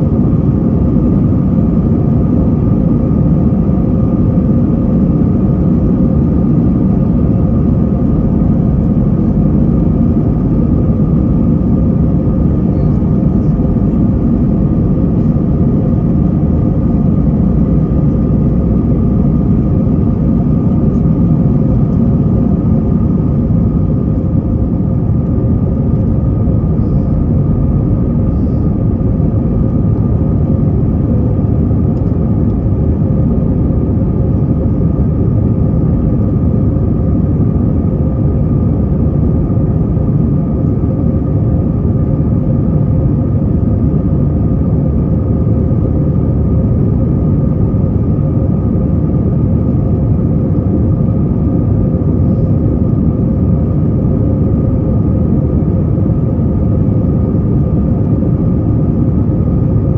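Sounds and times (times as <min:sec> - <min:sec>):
jet engines rumbling at takeoff: 0:00.0 - 0:59.9.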